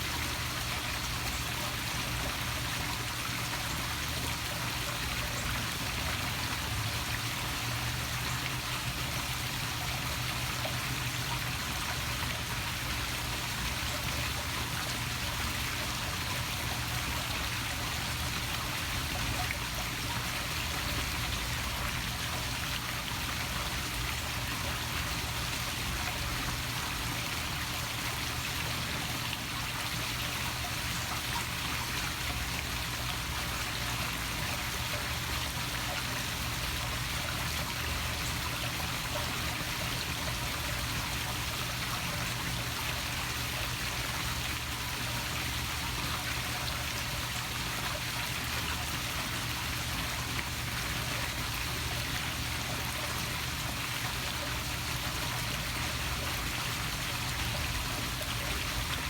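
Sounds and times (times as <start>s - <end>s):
waterfall splashing into pool: 4.4s - 59.0s.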